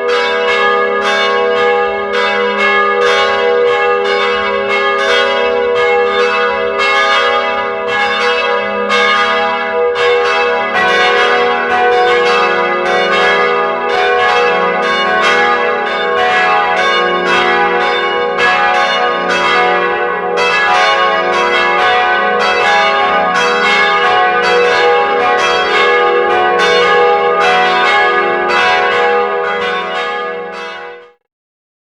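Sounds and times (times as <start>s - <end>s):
church bells ringing: 0.0s - 31.2s.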